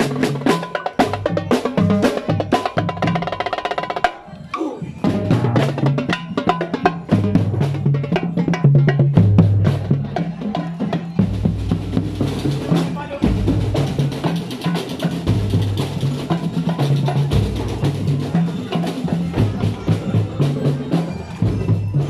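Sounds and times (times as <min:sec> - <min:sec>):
marching band music: 0:00.0 - 0:22.0
marching drums beating: 0:00.0 - 0:22.0.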